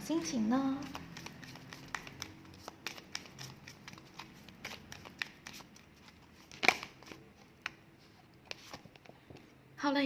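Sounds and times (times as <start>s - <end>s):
cards shuffling and rustling: 0.8s - 9.5s.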